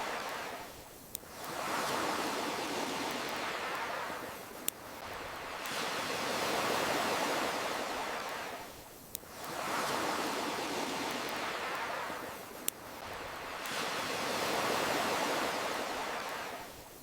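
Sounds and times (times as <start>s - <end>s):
waves washing on shore: 0.0s - 17.0s.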